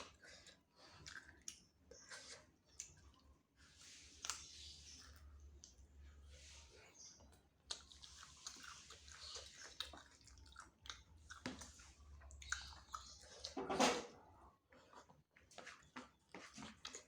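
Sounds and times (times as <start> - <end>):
person chewing food: 0.0 - 6.0, 7.2 - 13.6, 14.2 - 17.0.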